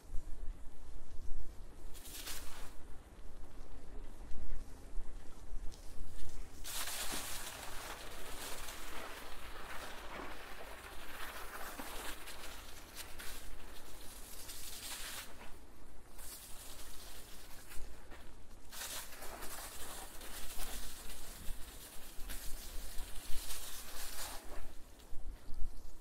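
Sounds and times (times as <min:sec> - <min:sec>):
bicycle tyres rolling: 0:00.0 - 0:26.0
wind buffeting microphone: 0:00.0 - 0:26.0.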